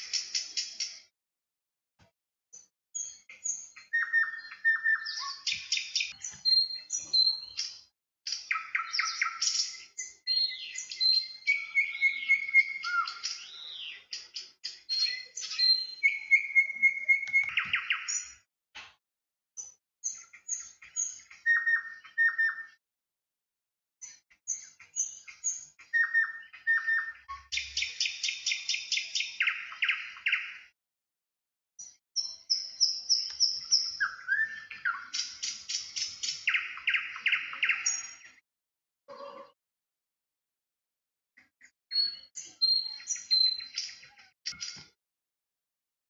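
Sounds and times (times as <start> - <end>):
songbirds singing: 0.0 - 1.1, 2.6 - 18.4, 19.6 - 22.8, 24.0 - 30.8, 31.8 - 38.4, 41.4 - 45.0.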